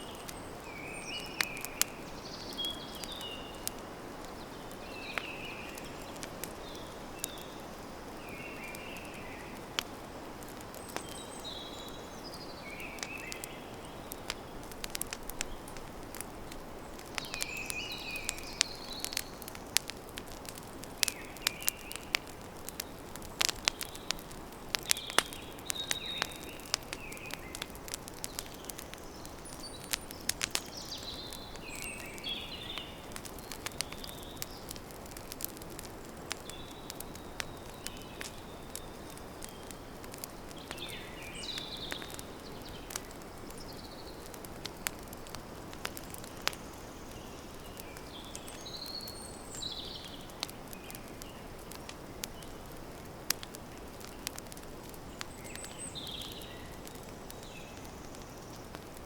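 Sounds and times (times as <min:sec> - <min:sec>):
campfire crackling and popping: 0:00.0 - 0:59.0
small birds chirping: 0:00.0 - 0:59.0.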